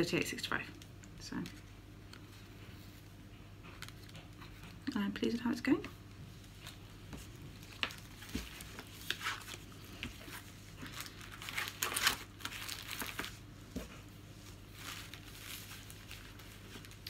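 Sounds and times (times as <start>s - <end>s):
wrapping crinkling: 0.0s - 5.2s, 6.4s - 17.0s.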